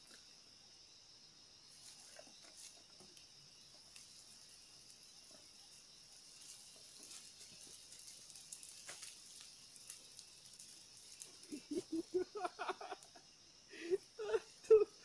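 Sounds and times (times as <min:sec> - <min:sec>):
insects humming: 0:00.0 - 0:15.0.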